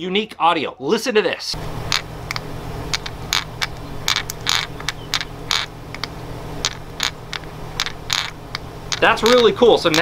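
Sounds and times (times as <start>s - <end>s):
lure weights clicking: 1.9s - 10.0s.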